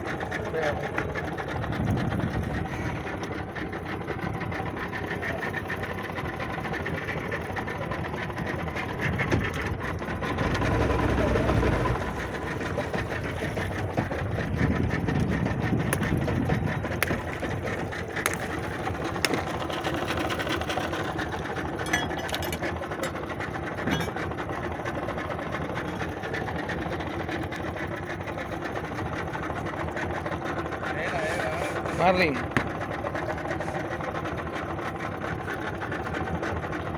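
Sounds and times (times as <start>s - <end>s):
outboard motor running: 0.0s - 36.9s.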